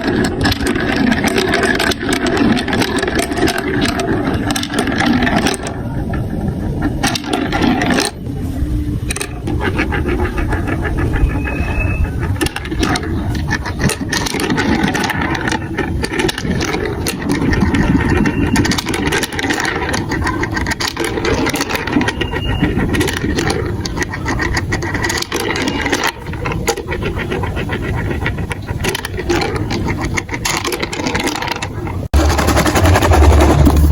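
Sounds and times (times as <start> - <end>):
rapid clicks of marbles: 0.0 - 8.3, 9.0 - 32.2
marbles rolling on plastic track: 0.0 - 33.9.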